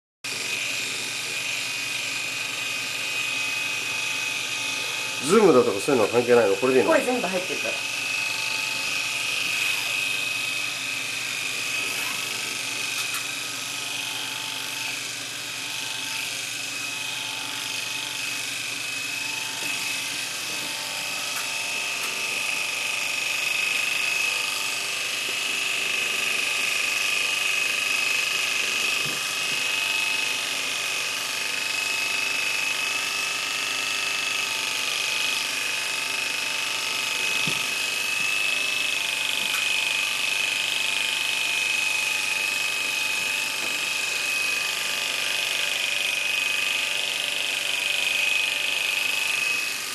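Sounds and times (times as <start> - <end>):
electric clipper whining: 0.2 - 49.9.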